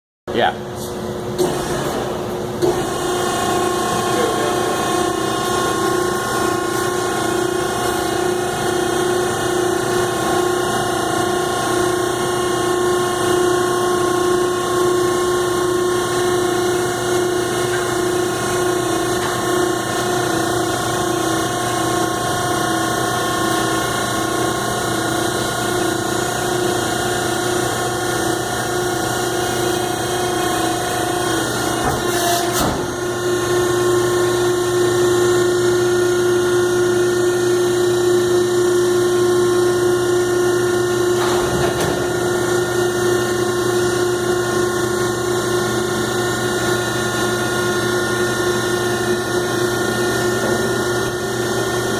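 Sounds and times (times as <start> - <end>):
baler mechanical drone: 0.3 - 51.9.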